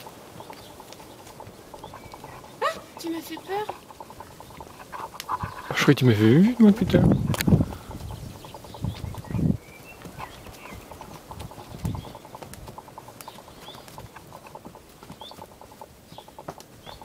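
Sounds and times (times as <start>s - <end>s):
hooves clopping on dirt: 0.0s - 17.0s
small birds chirping: 0.0s - 17.0s.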